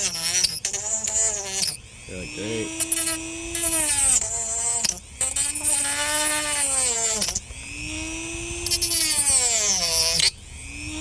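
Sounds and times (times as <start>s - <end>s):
power tool whining: 0.0s - 11.0s.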